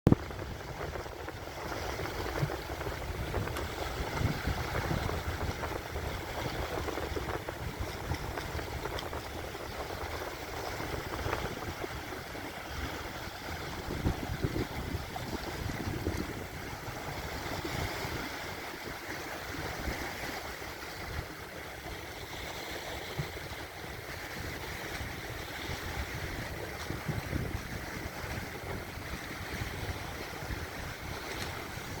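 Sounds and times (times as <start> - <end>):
small waves washing against embankment: 0.1 - 32.0.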